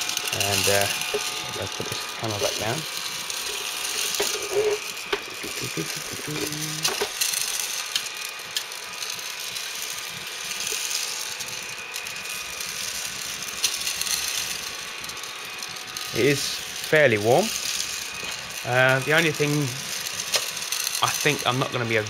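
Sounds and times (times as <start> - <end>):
coffee beans rattling in drum: 0.0 - 22.0
roaster whirring hiss: 0.0 - 22.0.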